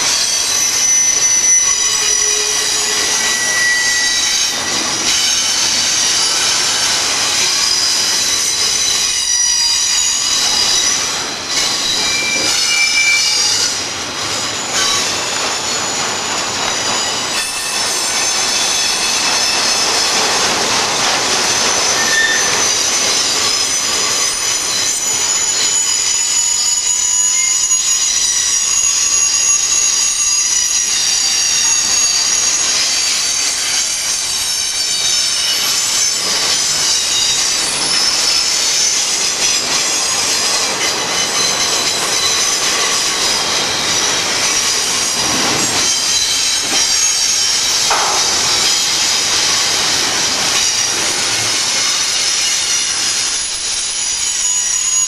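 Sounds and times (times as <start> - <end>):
rumble of passing train: 0.0 - 55.0
train wheels squealing on rails: 0.0 - 55.0.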